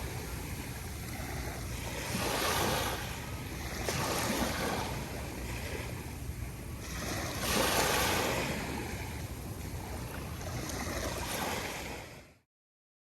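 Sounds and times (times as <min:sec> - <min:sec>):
ocean waves washing onto beach: 0:00.0 - 0:12.4
wind rumble on microphone: 0:00.0 - 0:12.4.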